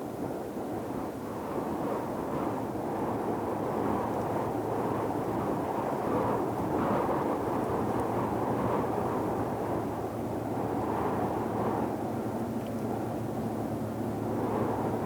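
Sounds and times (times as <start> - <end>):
ocean white noise: 0.0 - 15.0.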